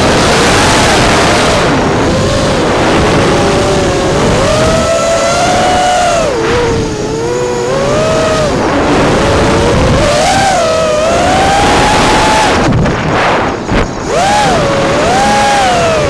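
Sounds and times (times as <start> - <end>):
drone motors whining: 0.0 - 16.0
wind rushing on microphone: 0.0 - 16.0.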